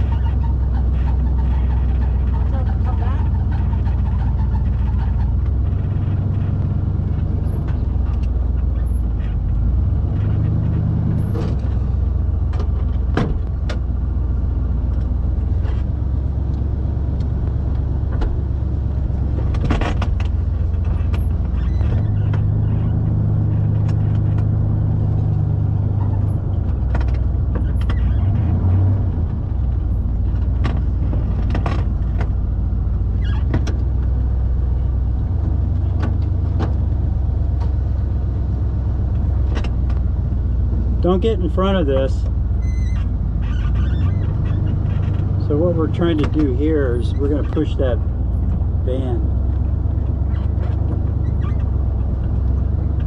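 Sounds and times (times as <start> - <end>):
knocks and clunks: 0.0 - 53.0
truck engine running: 0.0 - 53.0.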